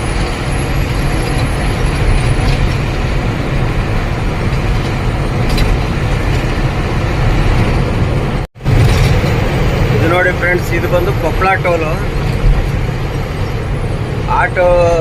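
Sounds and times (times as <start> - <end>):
truck engine drone and road noise: 0.0 - 15.0.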